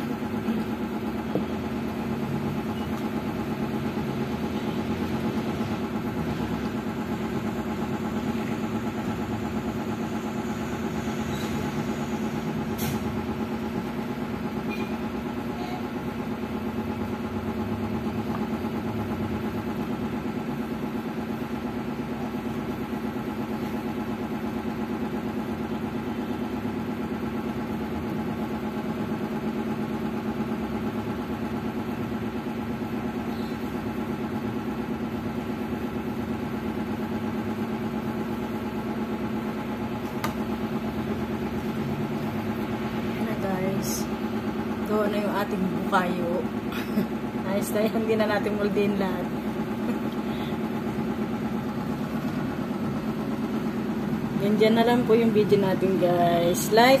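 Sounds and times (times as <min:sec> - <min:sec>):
motor hum: 0:00.0 - 0:57.0.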